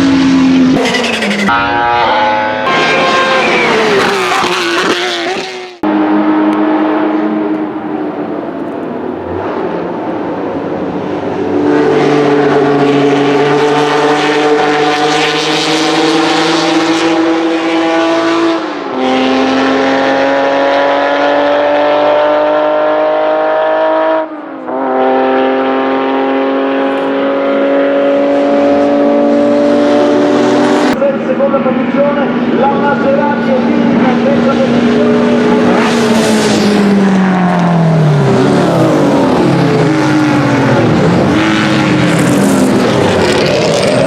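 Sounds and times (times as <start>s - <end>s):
car engine accelerating hard: 0.0s - 44.0s.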